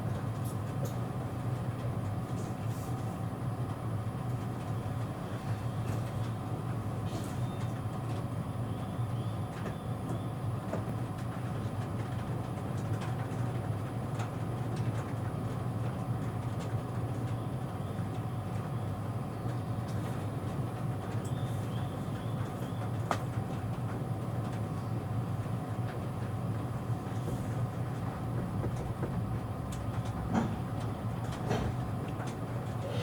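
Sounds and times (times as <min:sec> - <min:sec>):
train interior hum: 0:00.0 - 0:33.0.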